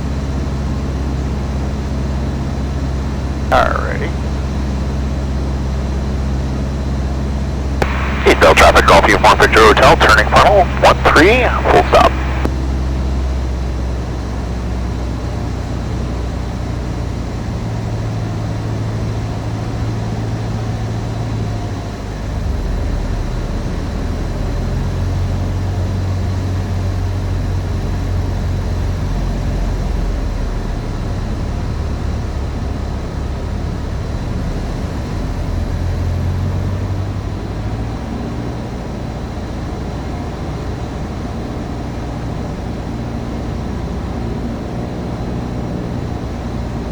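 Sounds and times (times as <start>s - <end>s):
light aircraft engine droning: 0.0s - 46.9s.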